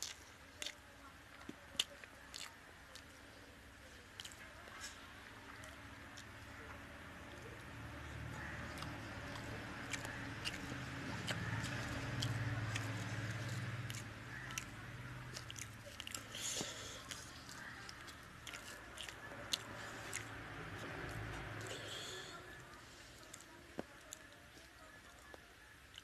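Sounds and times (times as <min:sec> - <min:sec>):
chewing and biting: 0:00.0 - 0:26.0.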